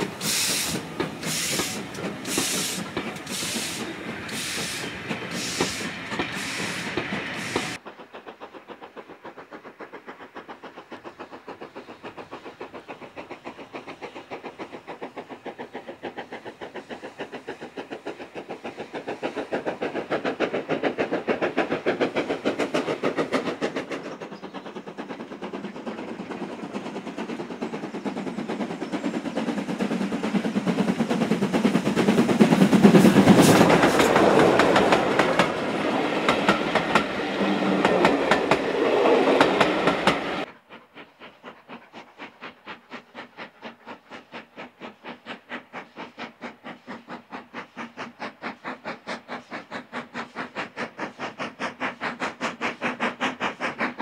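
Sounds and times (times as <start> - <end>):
steam locomotive exhaust beats: 0.0 - 54.0
train wheels clattering over rail joints: 0.0 - 54.0.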